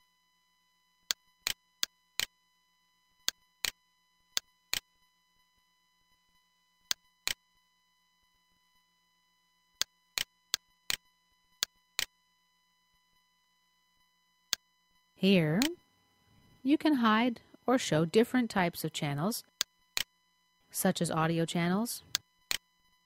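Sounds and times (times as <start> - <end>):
faint steady whine: 0.0 - 23.0.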